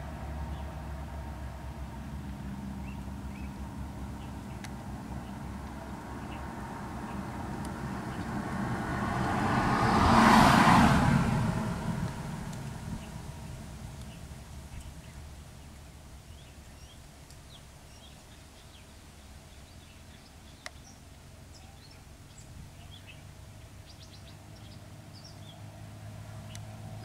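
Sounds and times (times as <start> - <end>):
motorcycles approaching: 0.0 - 18.7, 19.6 - 27.0
hum of vehicle engines: 0.0 - 27.0
birds chirping: 2.2 - 27.0.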